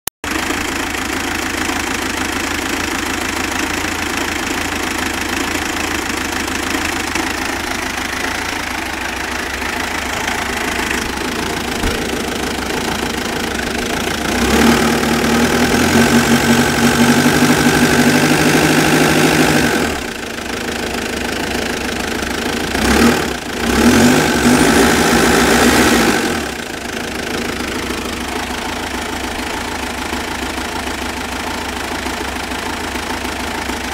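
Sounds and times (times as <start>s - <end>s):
car engine idling and revving: 0.2s - 33.9s.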